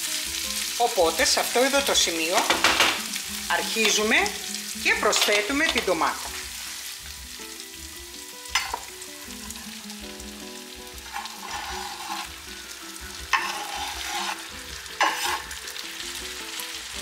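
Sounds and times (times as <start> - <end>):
bursts of sizzling: 0.0 - 17.0
vegetables sizzling in oil: 0.0 - 17.0.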